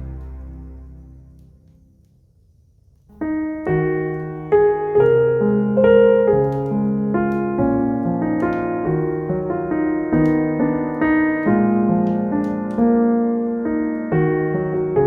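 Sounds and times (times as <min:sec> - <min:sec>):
piano music: 0:00.0 - 0:02.1, 0:03.1 - 0:15.0.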